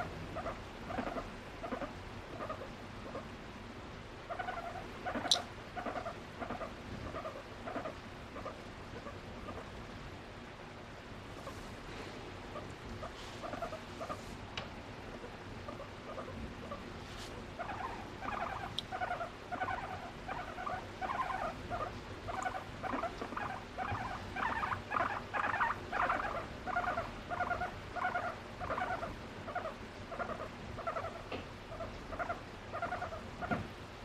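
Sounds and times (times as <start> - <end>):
guinea pig making pulsed notes: 0.0 - 3.3, 4.3 - 9.8, 12.5 - 14.3, 15.1 - 33.6.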